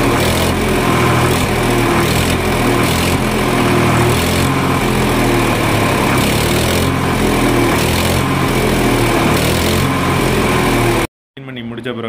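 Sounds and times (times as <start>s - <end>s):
engine running steadily: 0.0s - 11.1s.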